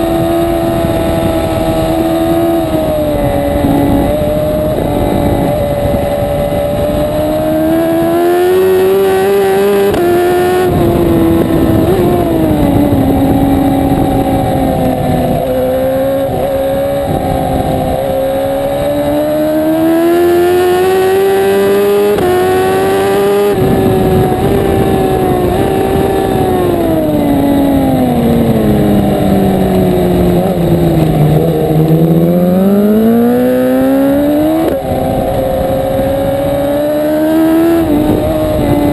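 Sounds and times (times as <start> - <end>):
motorbike engine accelerating: 0.0 - 38.9.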